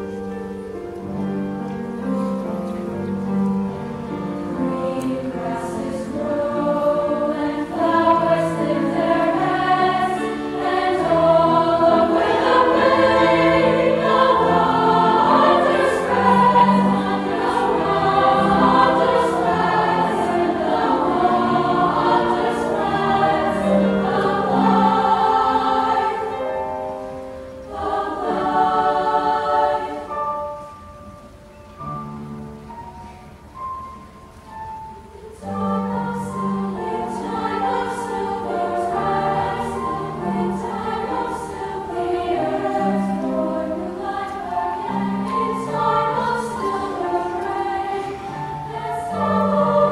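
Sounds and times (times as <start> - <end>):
girls' choir singing: 3.6 - 30.7, 35.0 - 49.9.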